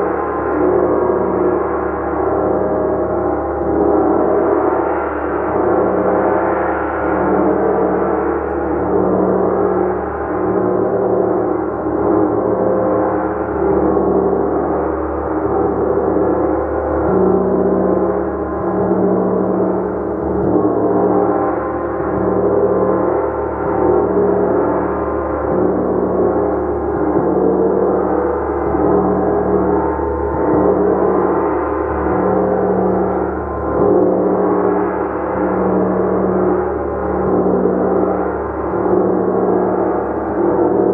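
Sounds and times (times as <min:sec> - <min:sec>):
gong wash: 0:00.0 - 0:40.9.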